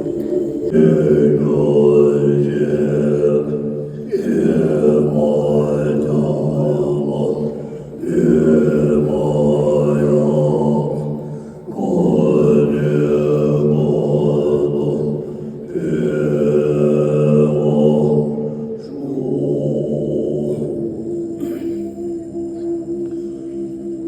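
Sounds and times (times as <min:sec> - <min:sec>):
low droning mantra chanting: 0:00.0 - 0:24.0.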